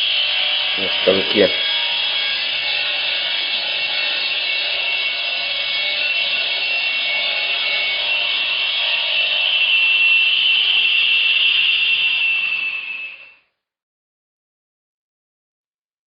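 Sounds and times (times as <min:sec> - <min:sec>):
saw grinding through brick: 0:00.0 - 0:13.0.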